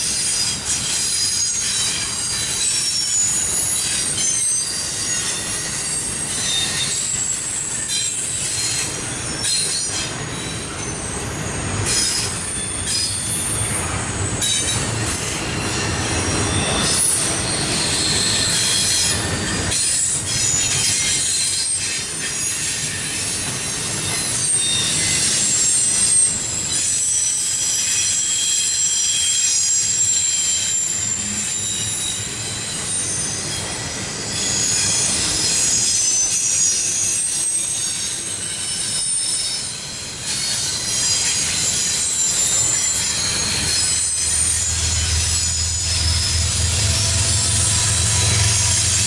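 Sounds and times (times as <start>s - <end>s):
diesel locomotive engine drone: 0.0s - 49.0s
train rumble: 0.0s - 49.0s
train wheels squealing: 0.0s - 49.0s.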